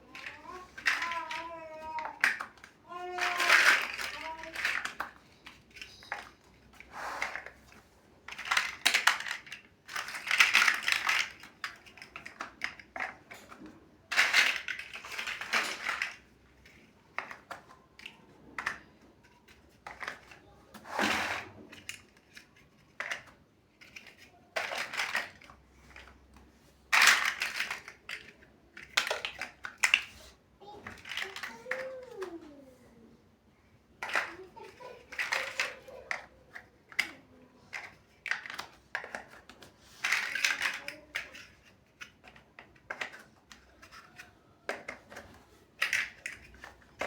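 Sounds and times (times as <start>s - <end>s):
plastic bricks clicking and clattering: 0.0s - 32.6s, 33.9s - 47.0s.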